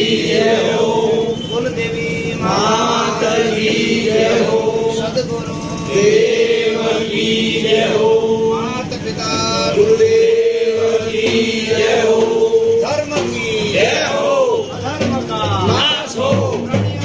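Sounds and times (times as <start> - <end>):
voices chanting a prayer: 0.0 - 17.0.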